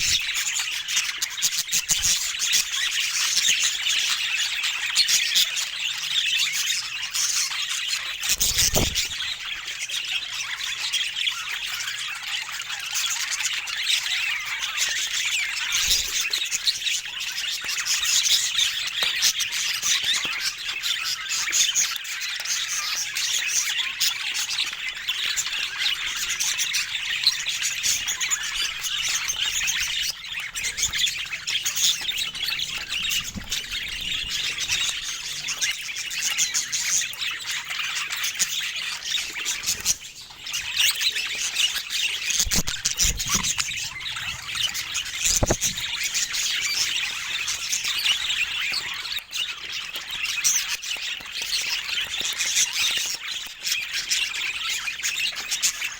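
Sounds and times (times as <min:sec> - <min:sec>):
budgerigars chattering: 0:00.0 - 0:20.0, 0:20.6 - 0:52.2.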